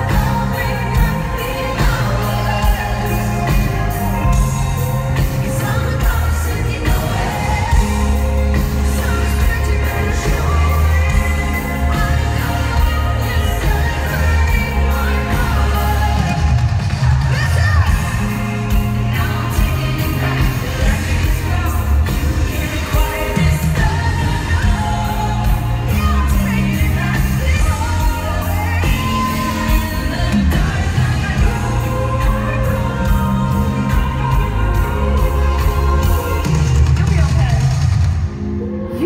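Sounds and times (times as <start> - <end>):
woman singing: 0.0 - 37.8
bass-heavy backing track with drums: 0.0 - 38.7.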